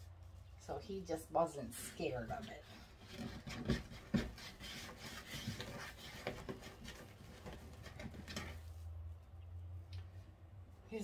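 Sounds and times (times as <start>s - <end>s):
mesh rustling and crinkling: 1.8s - 11.0s.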